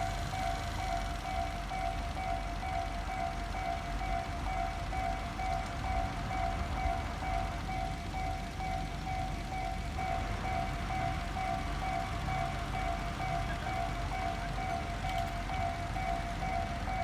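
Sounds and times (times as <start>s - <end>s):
level-crossing warning bell: 0.0s - 17.0s.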